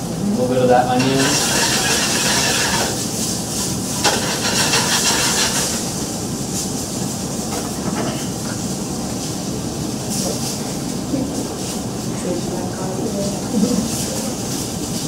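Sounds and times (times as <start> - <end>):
vegetables sizzling in a pan: 0.6 - 15.0.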